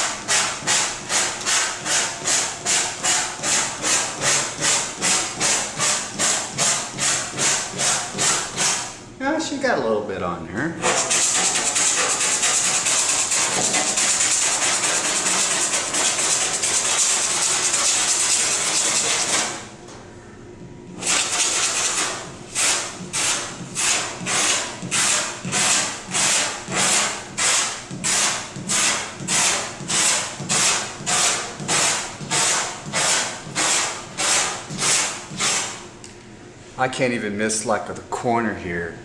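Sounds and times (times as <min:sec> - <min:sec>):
clay bar rasping on car paint: 0:00.0 - 0:08.9, 0:10.8 - 0:19.6, 0:21.0 - 0:35.8.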